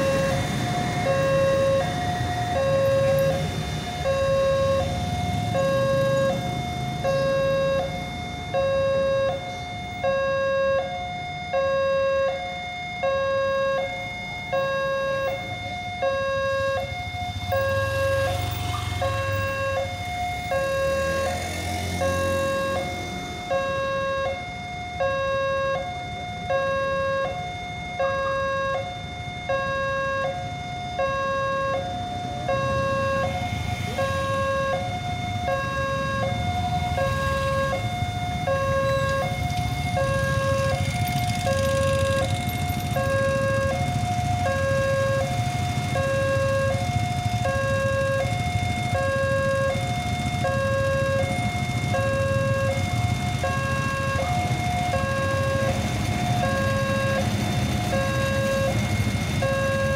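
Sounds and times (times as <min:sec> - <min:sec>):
level-crossing warning alarm: 0:00.0 - 0:59.9
traffic engine rumble: 0:00.0 - 0:59.9.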